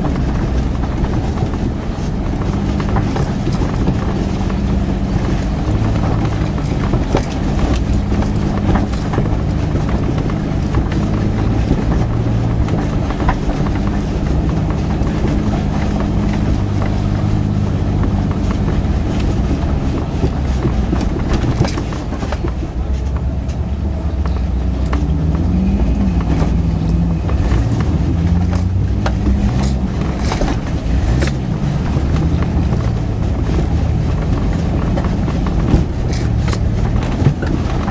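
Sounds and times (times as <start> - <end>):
body and suspension clunks: 0.0 - 37.9
car engine at low revs: 0.0 - 37.9.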